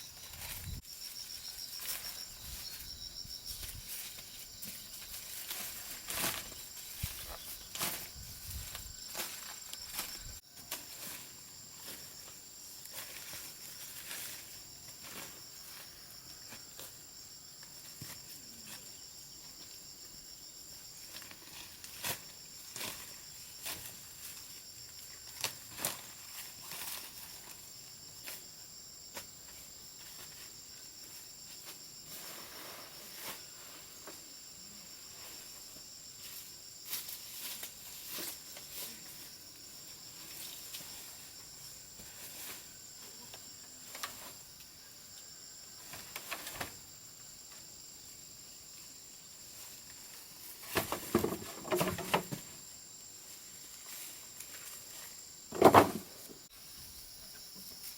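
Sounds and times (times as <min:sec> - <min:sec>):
crickets or cicadas chorus: 0:00.0 - 0:57.9.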